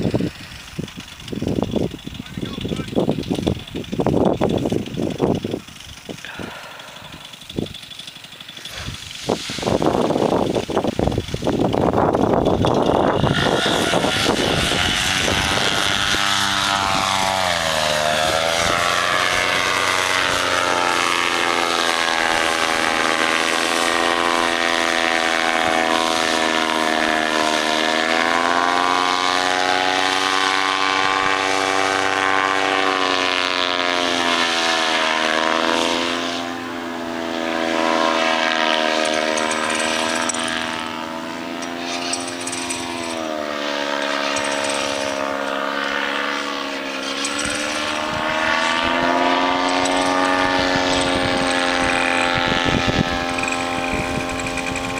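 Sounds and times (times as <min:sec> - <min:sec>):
paramotor engine and propeller: 0:00.0 - 0:54.9.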